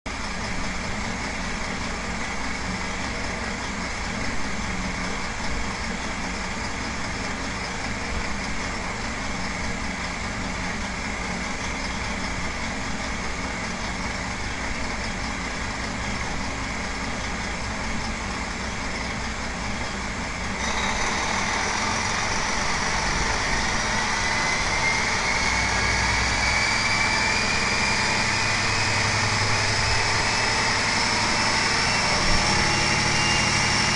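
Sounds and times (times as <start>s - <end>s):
diesel engine idling and revving: 0.1s - 33.9s.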